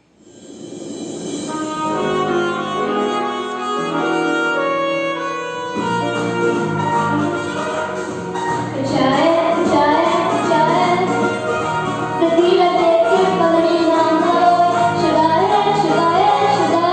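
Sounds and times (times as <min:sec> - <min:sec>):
instrumental pop backing track: 0:01.0 - 0:16.9.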